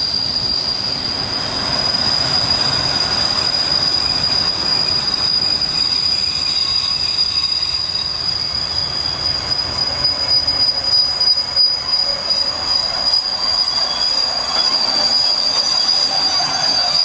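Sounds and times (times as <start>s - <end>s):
train wheel squeal: 0.0s - 17.0s
wheels rumbling on rails: 0.0s - 17.0s.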